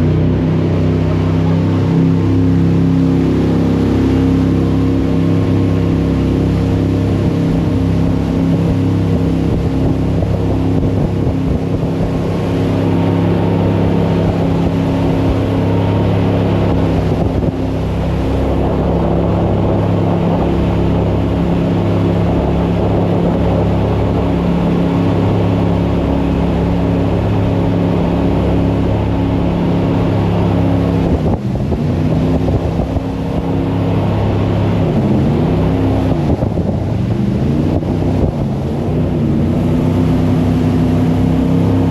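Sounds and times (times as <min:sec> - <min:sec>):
boat engine running: 0:00.0 - 0:41.9
water and air noise: 0:00.0 - 0:41.9.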